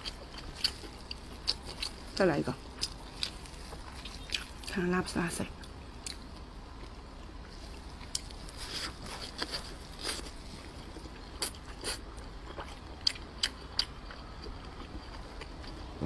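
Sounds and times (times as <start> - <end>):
wet chewing and lip smacks: 0.0 - 4.8, 5.6 - 7.0, 7.7 - 15.8.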